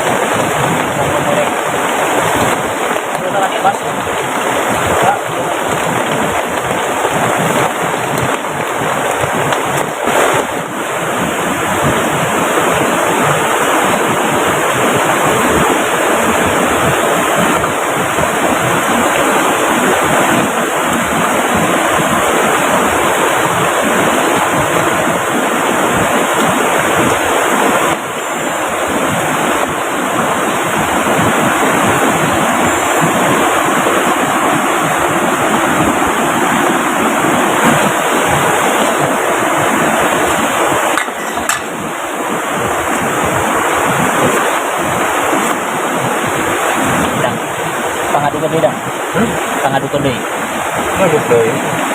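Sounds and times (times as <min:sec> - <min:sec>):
fast-running river: 0:00.0 - 0:51.9
heavy rain: 0:00.0 - 0:51.9.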